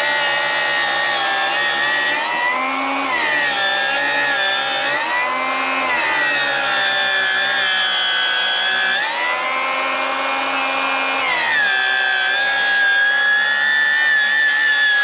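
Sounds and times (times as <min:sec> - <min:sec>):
table saw ripping wood: 0:00.0 - 0:15.0.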